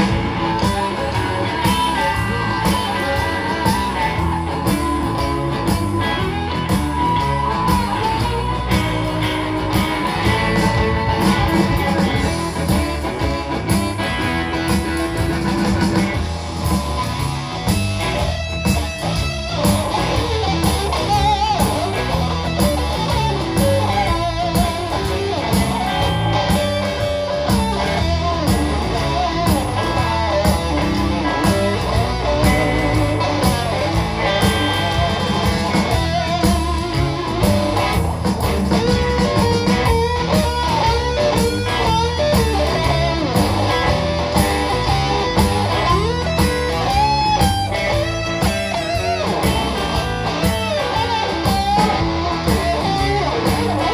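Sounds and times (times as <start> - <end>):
bass guitar: 0.0 - 53.9
drums: 0.0 - 53.9
electric guitar: 0.0 - 53.9
harmonica wailing: 0.0 - 53.9.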